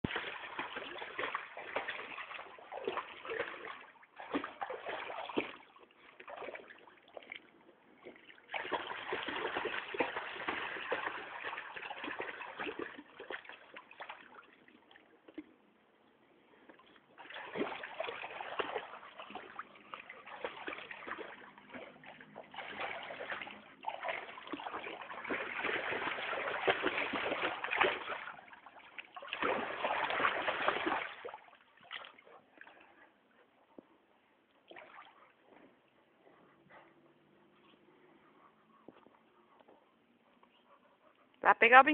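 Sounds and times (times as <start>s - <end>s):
water splashing and sloshing: 0.0s - 41.9s.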